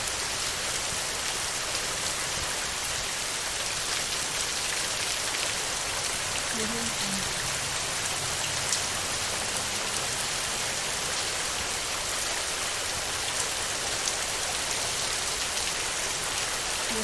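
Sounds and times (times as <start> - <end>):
heavy rain on a tin roof: 0.0 - 17.0.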